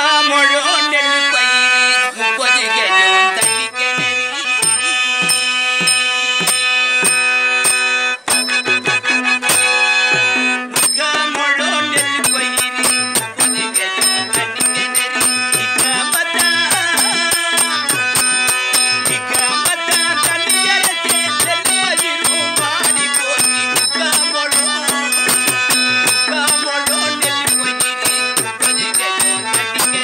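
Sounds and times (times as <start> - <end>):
harmonium melody over drone: 0.0 - 30.0
hand drum beating: 3.1 - 30.0.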